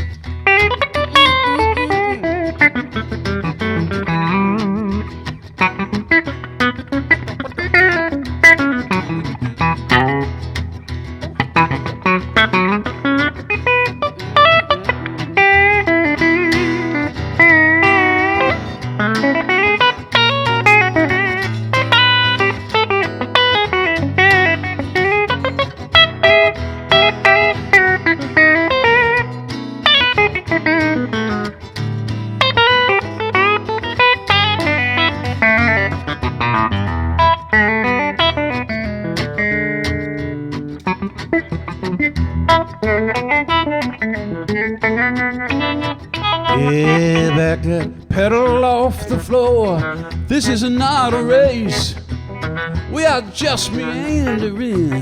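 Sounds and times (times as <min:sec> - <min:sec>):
electric guitar solo: 0:00.0 - 0:55.0.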